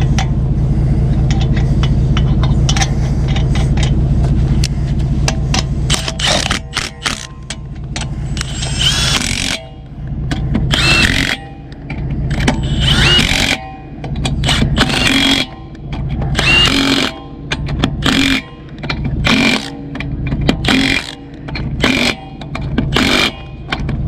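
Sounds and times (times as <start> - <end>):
impact wrench whine: 0.0 - 24.0
low engine hum: 0.0 - 24.0.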